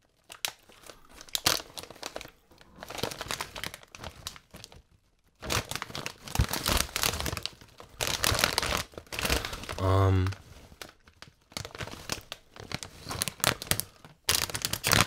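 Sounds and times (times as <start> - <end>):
plastic chip bag crinkling: 0.0 - 15.0.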